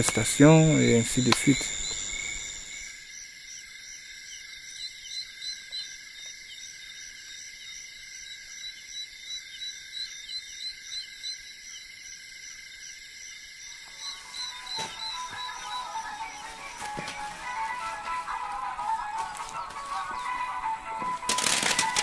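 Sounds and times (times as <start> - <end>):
short repeated insect chirps: 0.0 - 18.5, 21.2 - 22.0
insect chorus shrilling: 0.0 - 22.0.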